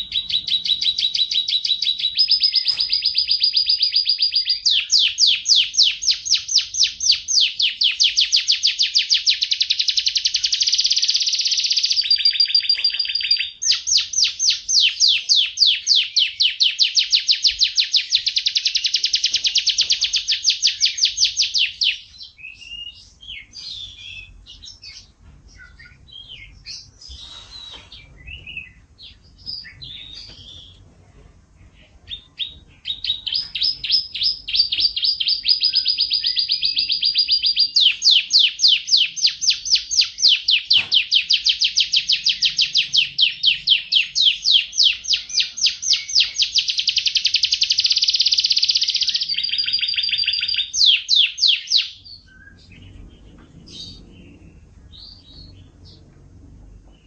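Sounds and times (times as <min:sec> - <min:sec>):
bird chirps and twitters: 0:00.0 - 0:30.8, 0:31.6 - 0:56.2
canary trilling song: 0:00.0 - 0:30.8, 0:31.6 - 0:56.1.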